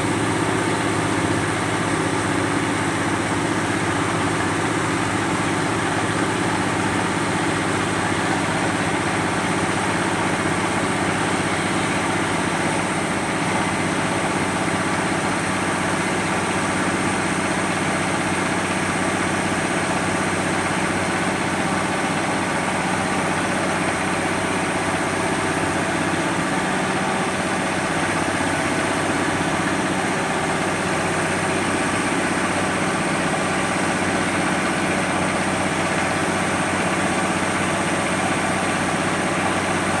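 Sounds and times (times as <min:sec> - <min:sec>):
boat engine running steadily: 0:00.0 - 0:40.0.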